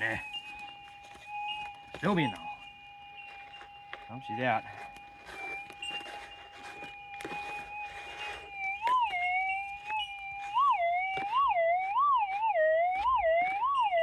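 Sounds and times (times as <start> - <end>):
metal detector warbles: 0.0 - 14.0.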